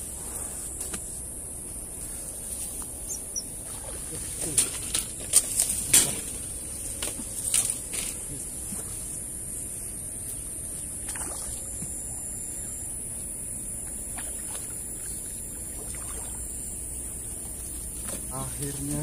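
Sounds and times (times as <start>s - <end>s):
insects hissing: 0.0s - 19.0s.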